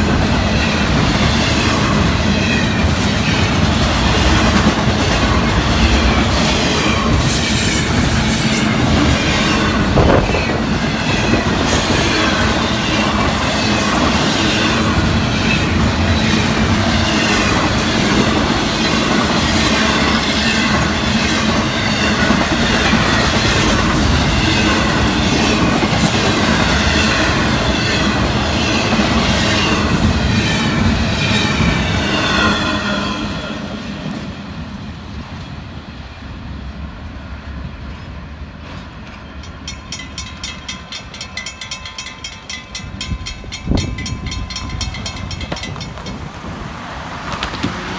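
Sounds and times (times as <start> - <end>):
freight train wheels on rail: 0.0 - 47.9.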